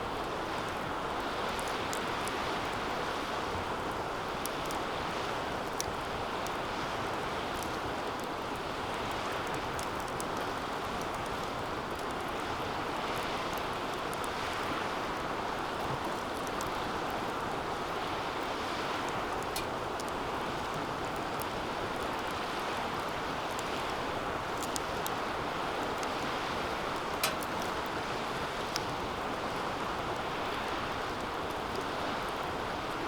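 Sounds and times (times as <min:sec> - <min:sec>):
fire crackles and pops: 0:00.0 - 0:33.0
wood fire rushing: 0:00.1 - 0:33.0.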